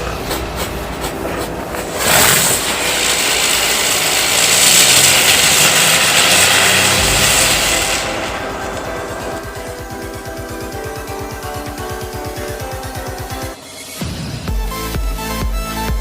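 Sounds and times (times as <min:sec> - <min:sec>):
firework hissing sparks: 0:00.0 - 0:14.0.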